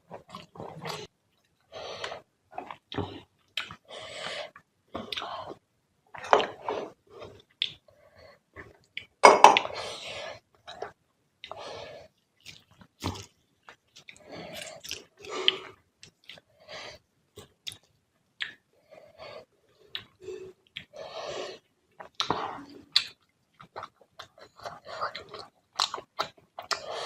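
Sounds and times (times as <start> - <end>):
person chewing food: 0.1 - 9.9, 12.4 - 27.0.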